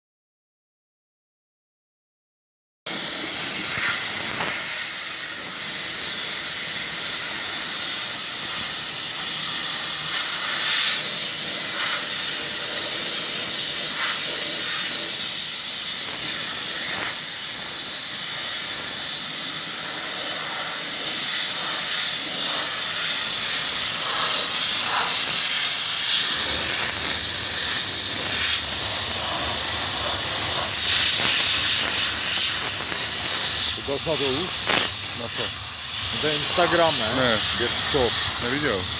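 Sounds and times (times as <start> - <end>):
pressure nozzle spraying hiss: 2.9 - 38.9.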